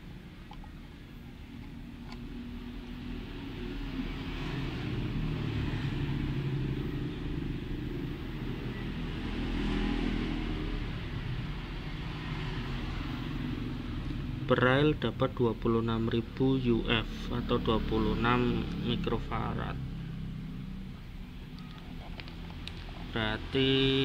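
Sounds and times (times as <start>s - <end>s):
passing vehicle engine rumble: 1.9s - 24.0s.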